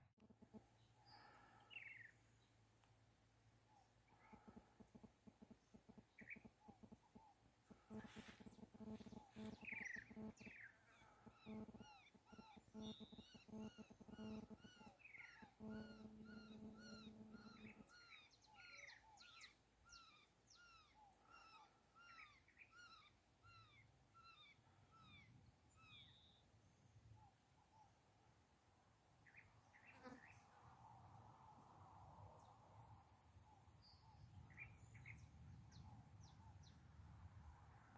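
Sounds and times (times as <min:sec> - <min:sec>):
small birds chirping: 0:00.4 - 0:28.0, 0:32.4 - 0:37.0.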